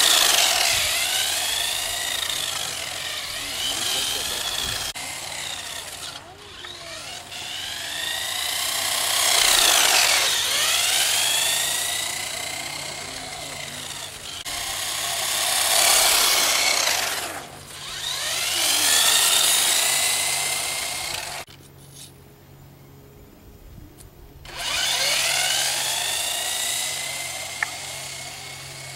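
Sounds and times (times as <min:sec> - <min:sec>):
rc car motor whine: 0:00.0 - 0:21.6, 0:24.4 - 0:28.9.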